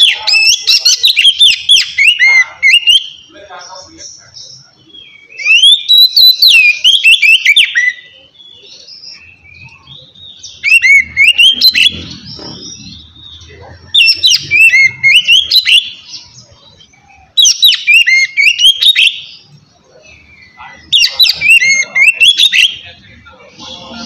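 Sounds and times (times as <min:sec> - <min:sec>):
bird singing whistled phrases: 0:00.0 - 0:03.3, 0:05.0 - 0:13.4, 0:14.0 - 0:16.3, 0:16.9 - 0:19.4, 0:20.2 - 0:22.8.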